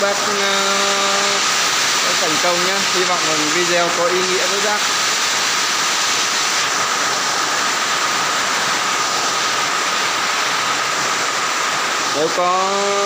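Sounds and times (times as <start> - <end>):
loud rushing noise: 0.0 - 13.0
thin high whine: 0.0 - 13.0.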